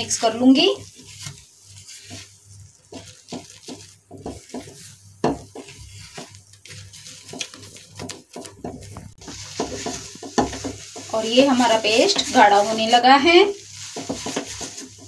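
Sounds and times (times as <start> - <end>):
wooden spatula scraping a pan: 0.0 - 15.0.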